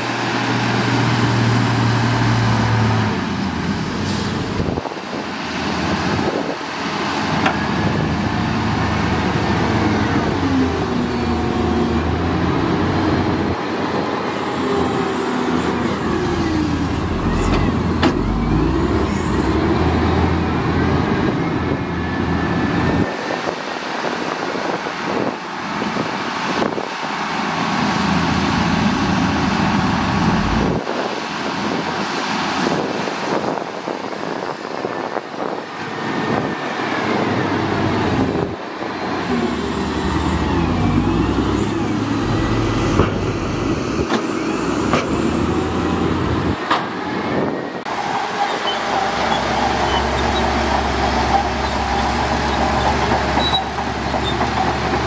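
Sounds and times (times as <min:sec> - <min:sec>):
diesel engines revving: 0:00.0 - 0:55.0.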